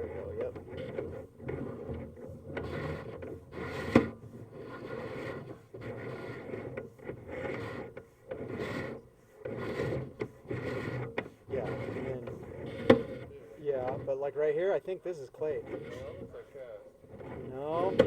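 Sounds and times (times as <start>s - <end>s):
cable scraping in pipe: 0.0s - 18.0s.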